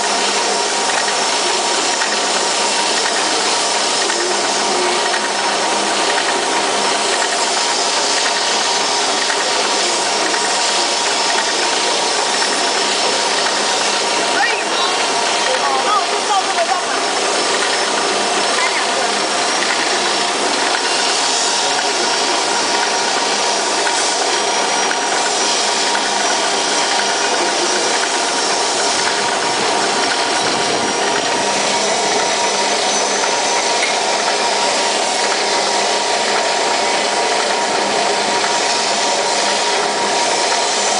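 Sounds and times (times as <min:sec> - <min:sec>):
milling machine running: 0:00.0 - 0:40.9.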